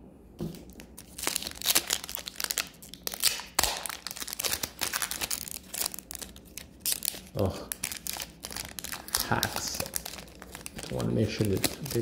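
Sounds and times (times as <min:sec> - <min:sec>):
foil wrapper crinkling and tearing: 0:00.5 - 0:12.0.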